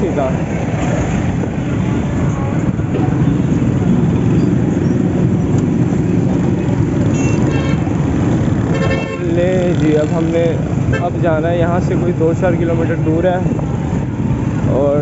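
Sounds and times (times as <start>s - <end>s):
motorcycle engine and wind rush: 0.0s - 15.0s.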